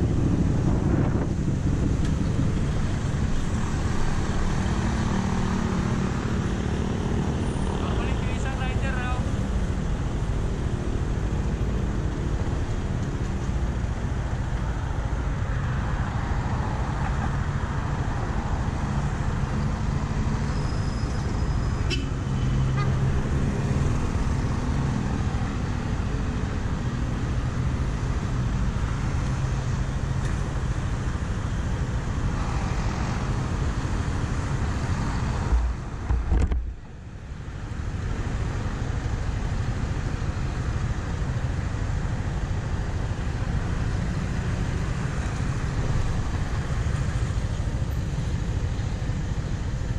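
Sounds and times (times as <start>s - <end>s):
other vehicles in traffic: 0.0s - 49.9s
road and wind noise: 0.0s - 49.9s.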